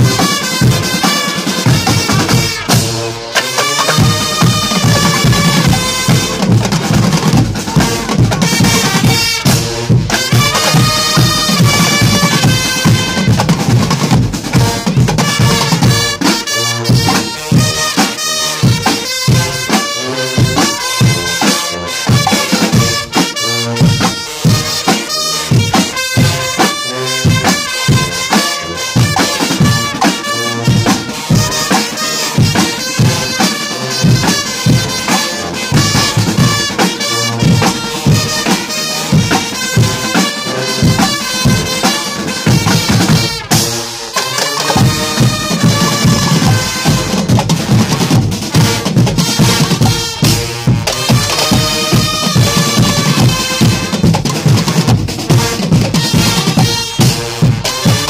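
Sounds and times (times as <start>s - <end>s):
brass band playing loudly: 0.0s - 58.0s
snare and bass drums: 0.0s - 58.0s
trumpets and sousaphones: 0.0s - 58.0s.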